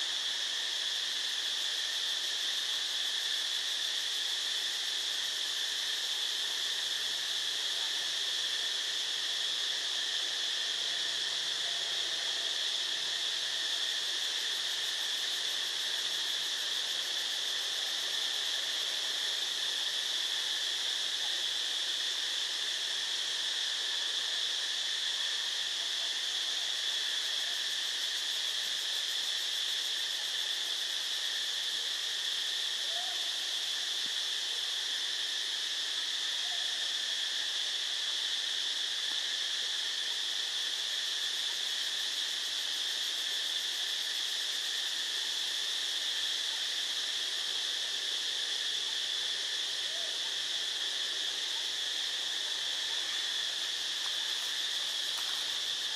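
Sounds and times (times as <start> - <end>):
shrill insect drone: 9.0 - 55.9.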